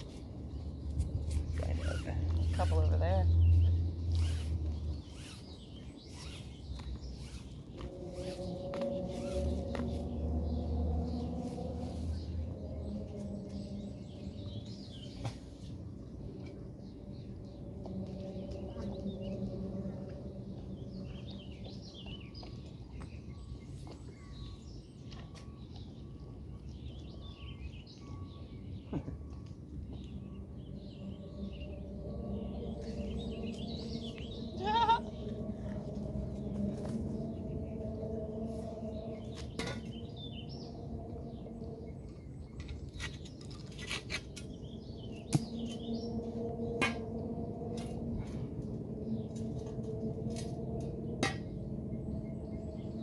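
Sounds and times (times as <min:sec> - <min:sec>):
low background rumble: 0:00.0 - 0:24.6, 0:25.5 - 0:53.0
small birds chirping: 0:00.0 - 0:51.2
steady low hum: 0:00.0 - 0:53.0.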